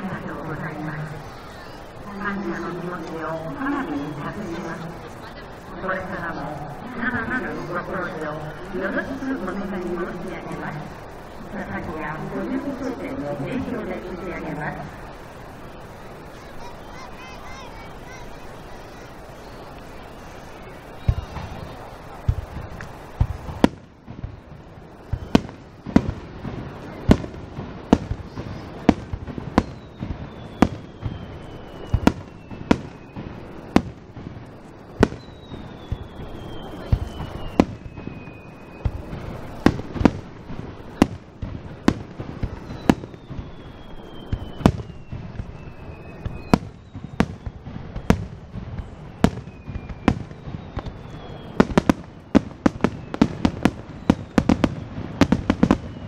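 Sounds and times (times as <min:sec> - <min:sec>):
falling firework whistles: 0:00.0 - 0:56.0
fireworks bangs: 0:00.0 - 0:56.0.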